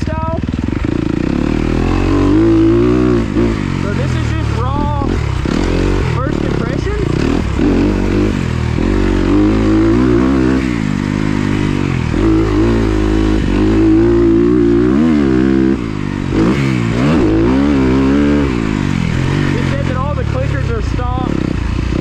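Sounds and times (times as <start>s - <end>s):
motocross engine revving: 0.0s - 22.0s.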